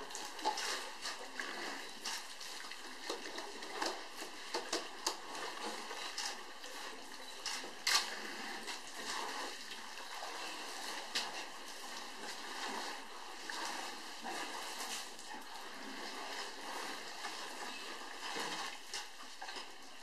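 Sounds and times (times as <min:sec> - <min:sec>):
water splashing and dripping: 0:00.0 - 0:20.0.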